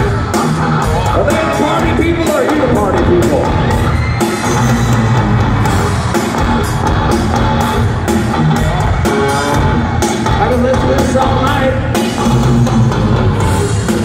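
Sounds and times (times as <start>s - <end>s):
distorted electric guitar: 0.0s - 14.0s
drum kit: 0.0s - 14.0s.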